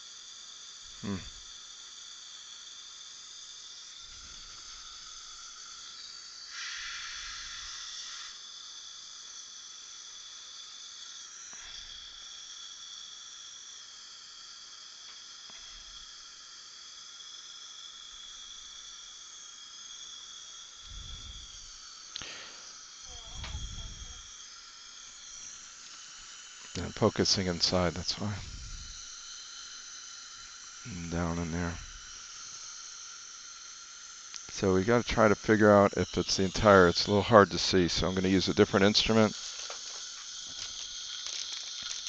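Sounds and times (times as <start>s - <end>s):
dental suction hissing: 0.0s - 42.0s.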